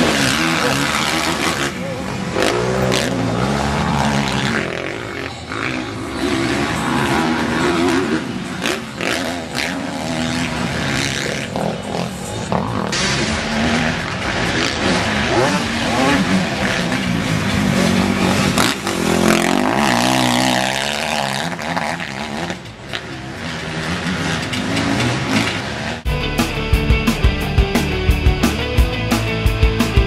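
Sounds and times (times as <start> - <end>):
motocross bike engines revving: 0.0 - 26.1.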